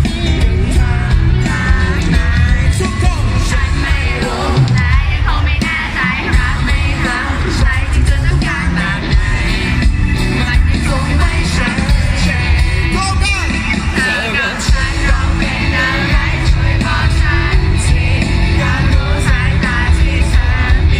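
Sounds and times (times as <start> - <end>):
live pop band playing: 0.0 - 20.9
man singing: 0.0 - 20.9.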